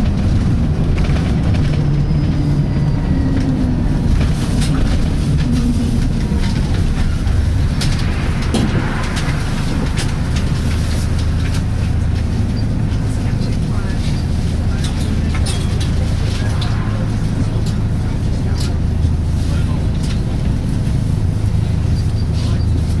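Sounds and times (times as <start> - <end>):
bus body rattles: 0.0 - 23.0
bus diesel engine drone: 0.0 - 23.0
faint whine: 2.1 - 20.5.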